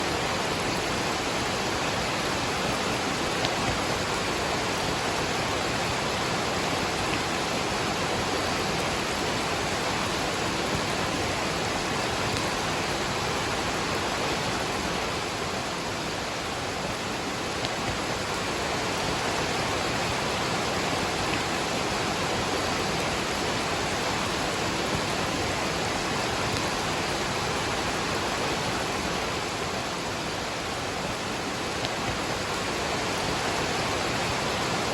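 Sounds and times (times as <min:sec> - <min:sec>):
rain falling: 0:00.0 - 0:34.9
waterfall rushing: 0:00.0 - 0:34.9.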